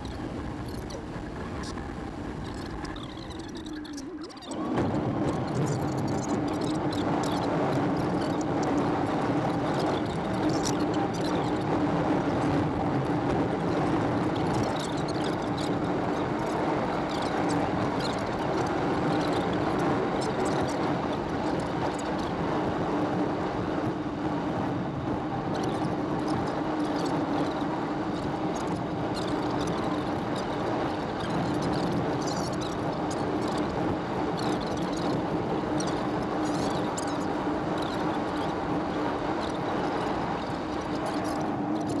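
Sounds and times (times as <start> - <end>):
car road and wind noise: 0.0 - 42.0
constant low drone: 0.0 - 42.0.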